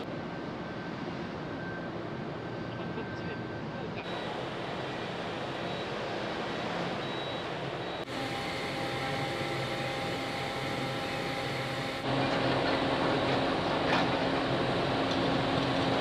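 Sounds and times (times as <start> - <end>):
ferry machinery drone: 0.0 - 16.0.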